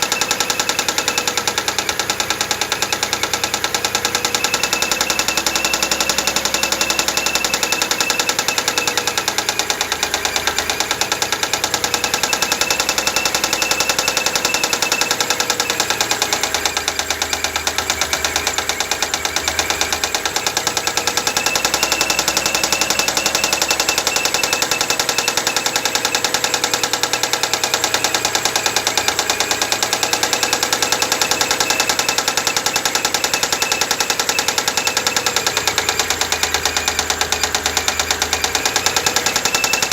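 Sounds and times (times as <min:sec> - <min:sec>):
engine running with knock: 0:00.0 - 0:39.9.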